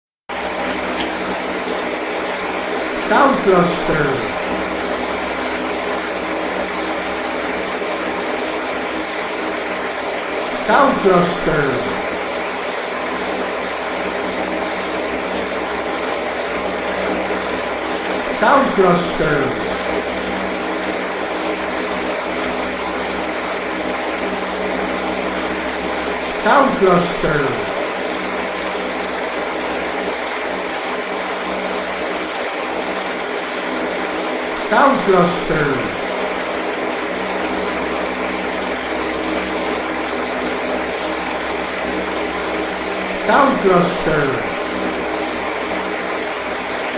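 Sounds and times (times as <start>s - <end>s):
electric fan running: 0.4s - 46.9s.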